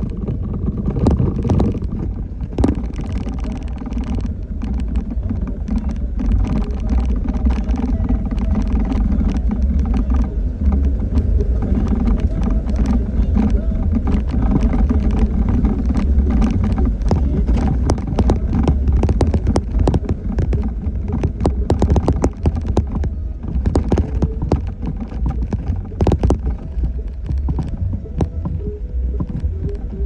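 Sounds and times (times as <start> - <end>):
suspension knocks and rattles: 0.0 - 30.0
vehicle low rumble: 0.0 - 30.0.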